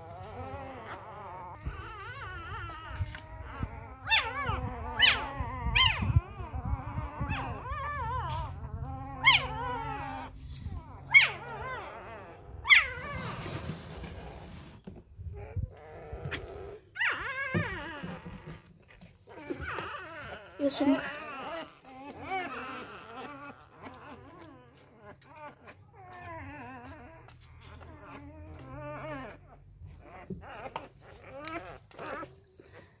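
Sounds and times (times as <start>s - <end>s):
puppies crying and whimpering: 0.0s - 33.0s.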